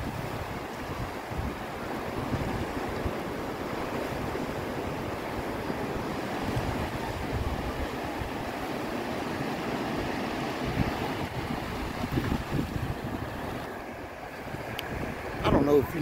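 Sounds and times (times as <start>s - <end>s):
surf washing onto beach: 0.0s - 16.0s
wind gusting on microphone: 0.0s - 16.0s.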